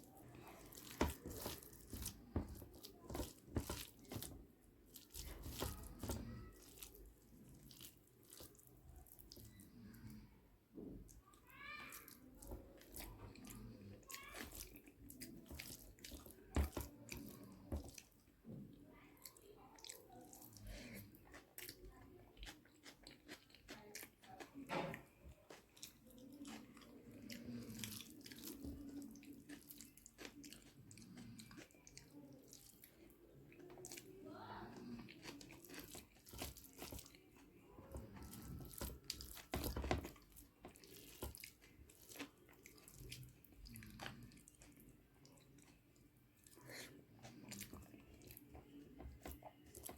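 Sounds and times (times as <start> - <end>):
person chewing food: 0.0 - 10.2, 11.9 - 49.9.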